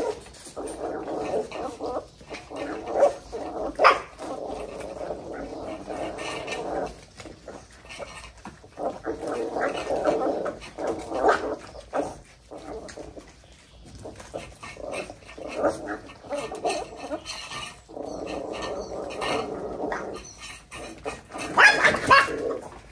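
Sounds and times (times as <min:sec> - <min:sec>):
puppies barking: 0:00.0 - 0:22.9
puppies whining: 0:00.0 - 0:22.9.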